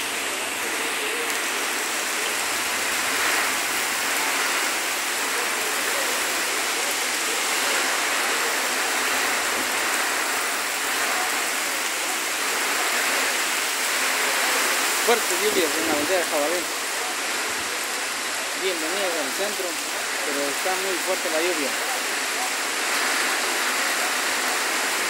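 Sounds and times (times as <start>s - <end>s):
heavy rain on street: 0.0s - 25.0s.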